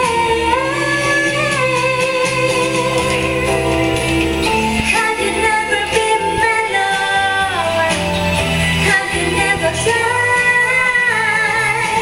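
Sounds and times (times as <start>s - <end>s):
woman singing: 0.0s - 3.7s, 4.8s - 12.0s
instrumental accompaniment with bass: 0.0s - 12.0s.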